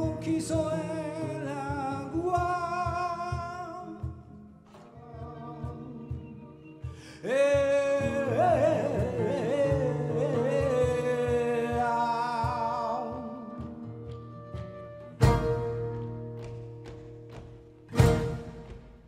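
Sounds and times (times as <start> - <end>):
guitar: 0.0 - 19.0
violin: 0.0 - 19.0.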